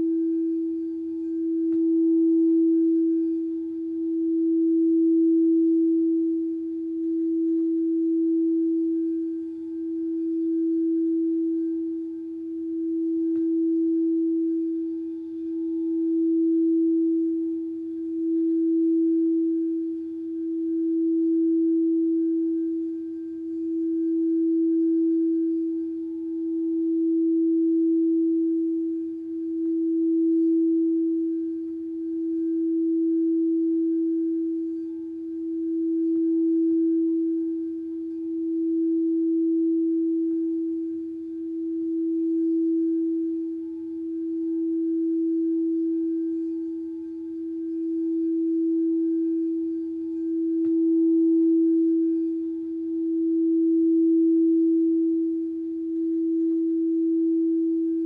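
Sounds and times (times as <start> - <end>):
singing bowl tone: 0.0 - 58.0.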